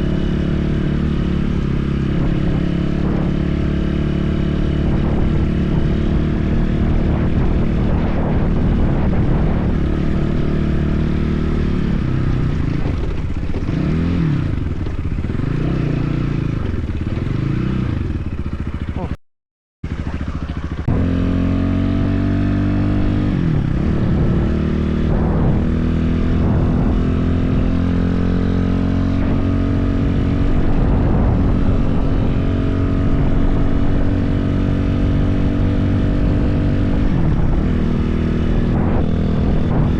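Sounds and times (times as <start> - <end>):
motorcycle engine revving: 0.0 - 19.2, 19.8 - 39.9.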